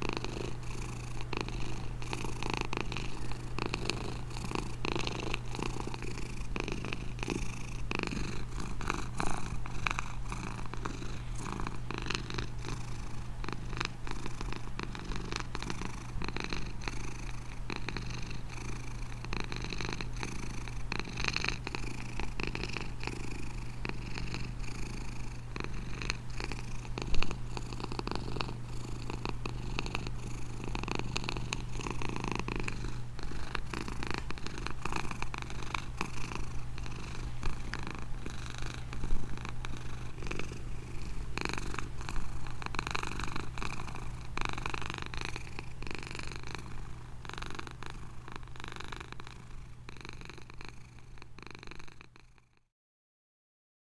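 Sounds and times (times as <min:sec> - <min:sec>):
cat purring: 0:00.0 - 0:52.7.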